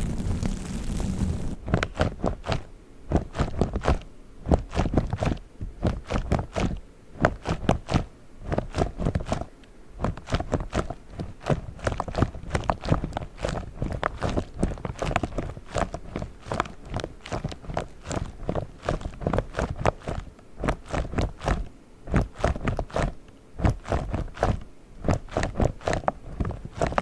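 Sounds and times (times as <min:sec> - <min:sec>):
steady rustling: 0:00.0 - 0:27.0
fingers tapping on spiky mat: 0:00.4 - 0:27.0.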